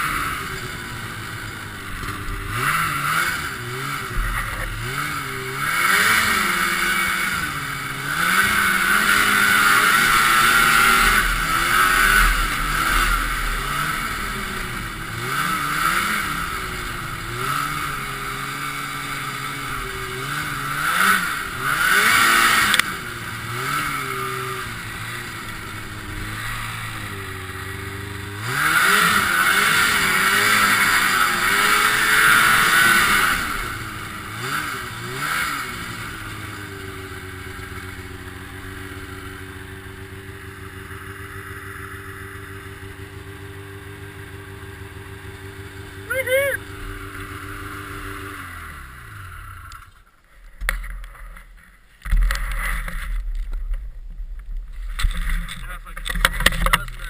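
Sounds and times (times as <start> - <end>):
snowmobile engine revving: 0.0 - 53.3.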